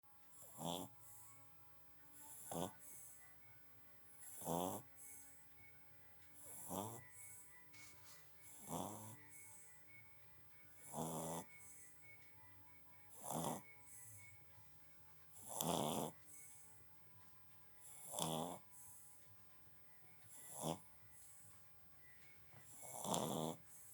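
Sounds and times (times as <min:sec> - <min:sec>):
puppy snoring: 0:00.3 - 0:01.4, 0:02.1 - 0:14.5, 0:15.2 - 0:23.9.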